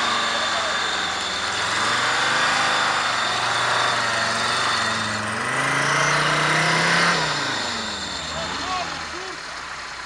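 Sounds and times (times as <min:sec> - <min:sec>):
vehicle engine running under load: 0:00.0 - 0:10.0.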